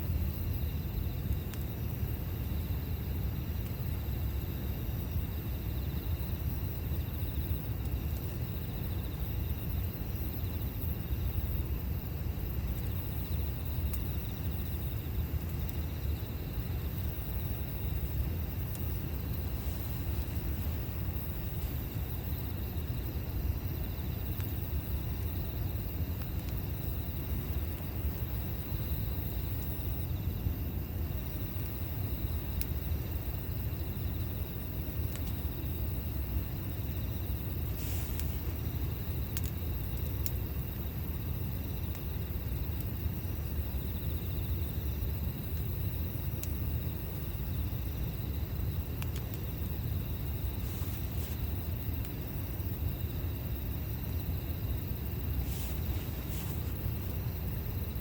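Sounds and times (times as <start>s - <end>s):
steady low rumble: 0.0s - 34.2s, 34.8s - 58.0s
campfire crackling: 0.0s - 58.0s.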